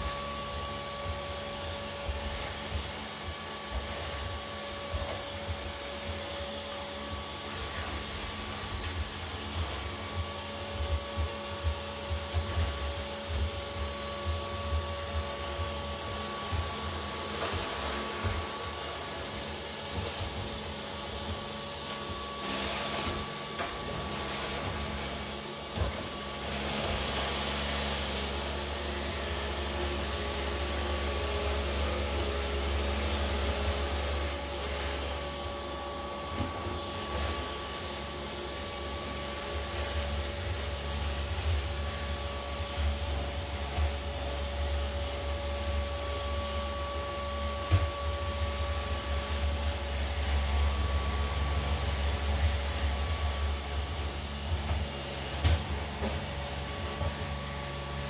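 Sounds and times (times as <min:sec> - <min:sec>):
robot vacuum motor hum: 0:00.0 - 0:58.0.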